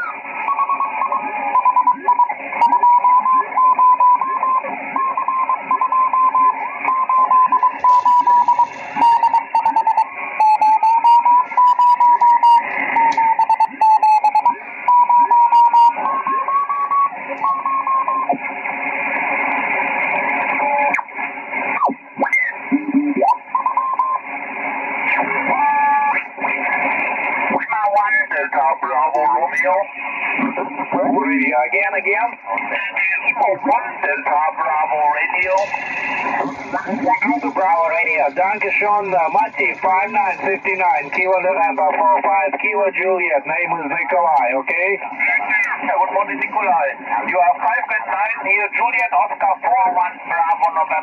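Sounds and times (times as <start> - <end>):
radio hiss: 0.0 - 51.0
radio whistle tone: 0.0 - 51.0
sliding radio tones: 0.0 - 51.0.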